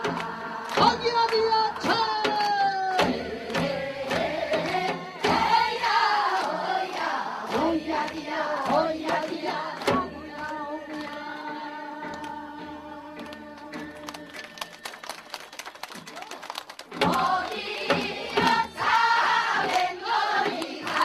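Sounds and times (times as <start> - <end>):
women and children singing folk song: 0.0 - 14.6, 16.9 - 21.0.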